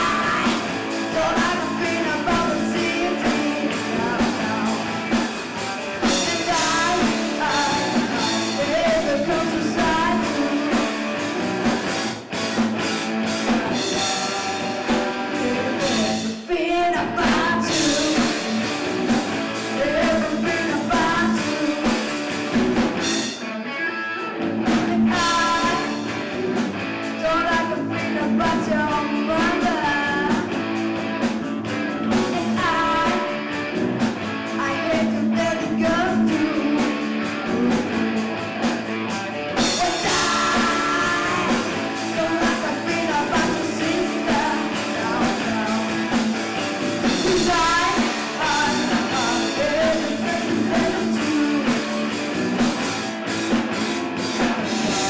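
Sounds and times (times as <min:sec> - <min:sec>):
person singing lead vocal: 0:00.0 - 0:12.3, 0:13.2 - 0:53.1, 0:54.2 - 0:55.0
live rock band playing: 0:00.0 - 0:55.0.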